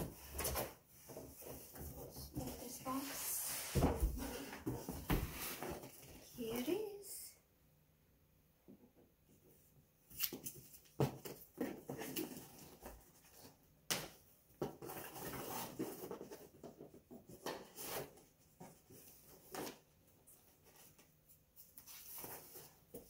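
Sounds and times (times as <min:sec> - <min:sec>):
rustling and scraping: 0:00.0 - 0:06.7, 0:10.1 - 0:13.8, 0:14.6 - 0:23.0.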